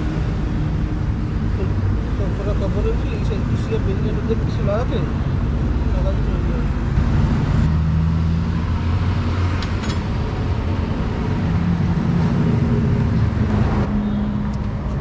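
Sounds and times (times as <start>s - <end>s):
road traffic noise: 0.0s - 15.0s
vehicle engine humming: 0.0s - 15.0s.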